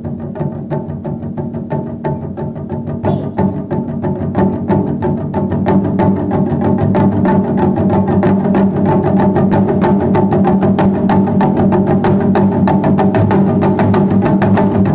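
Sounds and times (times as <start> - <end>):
drums played in fast rhythm: 0.0 - 14.9.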